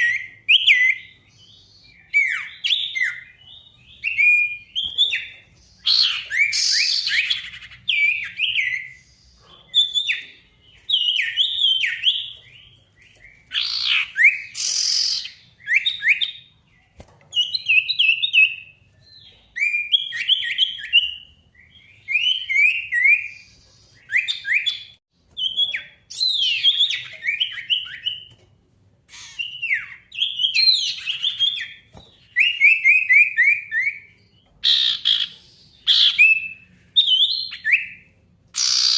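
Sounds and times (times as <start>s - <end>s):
songbird singing falling chirps: 0.0s - 28.5s, 29.2s - 38.9s.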